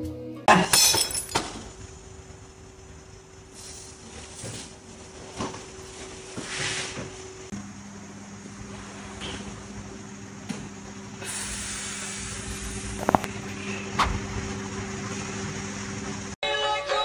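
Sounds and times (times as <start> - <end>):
steady low hum: 0.7 - 16.4.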